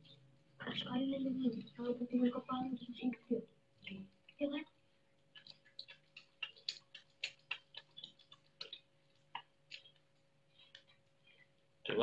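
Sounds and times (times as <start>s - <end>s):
otter chewing fish: 0.0s - 11.8s.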